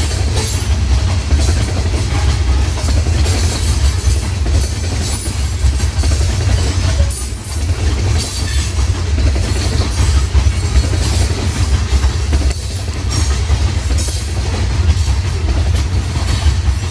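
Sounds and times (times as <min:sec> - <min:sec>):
freight train rumbling past: 0:00.0 - 0:16.9
wheels clicking over rail joints: 0:00.0 - 0:16.9.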